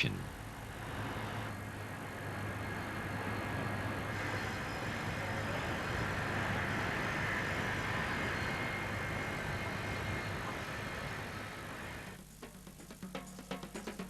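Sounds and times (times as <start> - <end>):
heavy machinery running: 0.0 - 12.2.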